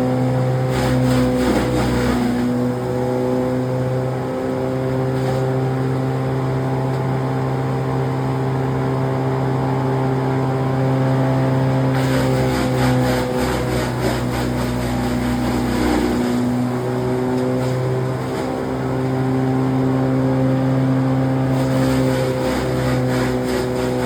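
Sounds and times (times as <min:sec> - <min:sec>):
branch shredder engine running: 0:00.0 - 0:24.0.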